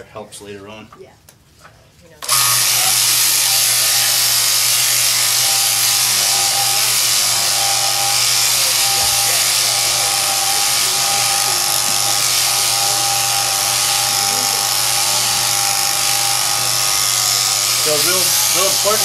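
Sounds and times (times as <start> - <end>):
shearing handpiece whining: 2.2 - 19.0.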